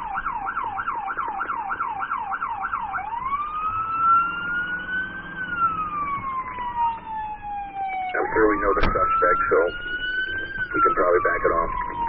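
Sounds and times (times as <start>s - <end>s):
police siren yelp and wail: 0.0s - 12.0s.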